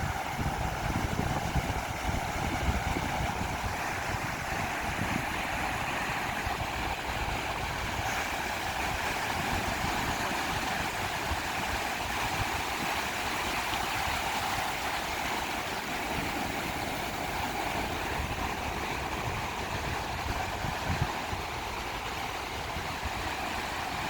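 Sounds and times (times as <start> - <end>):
ocean surf on sandy beach: 0.0 - 24.0.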